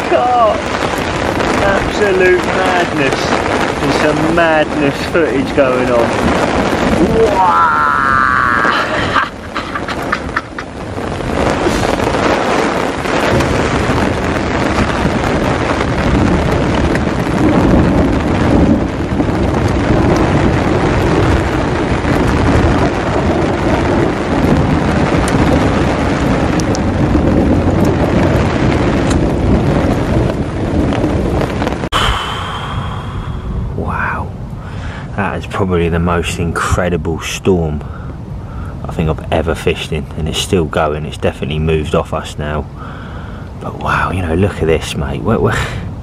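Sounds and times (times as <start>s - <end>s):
heavy rain: 0.0s - 46.0s
low rolling thunder: 0.0s - 46.0s.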